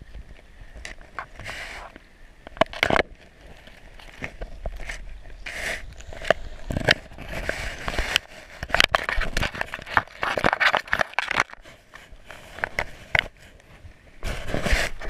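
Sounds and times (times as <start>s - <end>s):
claws scraping and clicking on camera: 0.1s - 15.0s.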